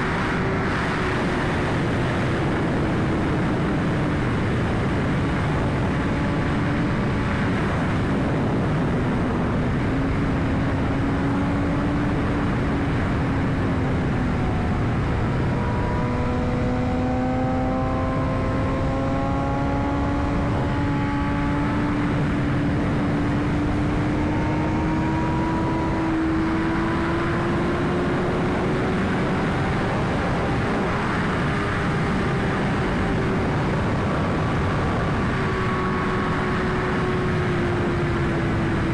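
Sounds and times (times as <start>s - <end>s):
motorcycle engine cruising: 0.0s - 38.9s
wind rush: 0.0s - 38.9s.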